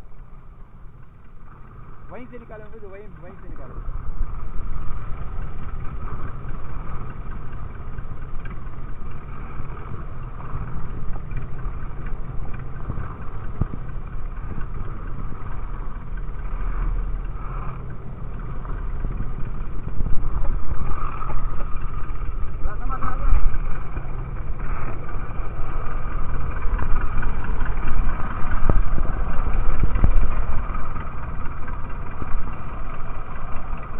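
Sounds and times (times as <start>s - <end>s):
boat engine running: 0.0s - 33.9s
water rushing along hull: 0.0s - 33.9s.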